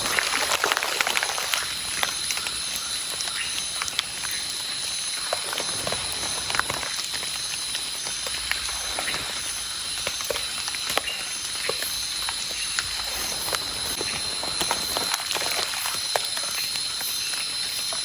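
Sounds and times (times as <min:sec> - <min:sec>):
night insects chorus: 0:00.0 - 0:18.0
pulsing insect call: 0:00.0 - 0:18.0
rain drips and taps: 0:00.0 - 0:18.0.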